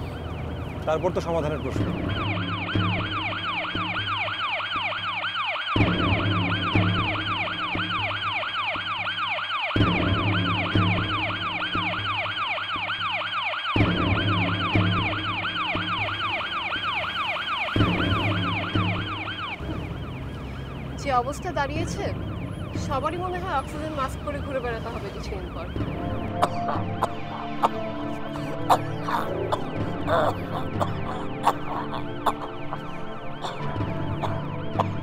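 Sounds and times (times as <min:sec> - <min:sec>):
ambulance siren wailing: 0:00.0 - 0:35.0
low sustained music chords: 0:05.8 - 0:35.0.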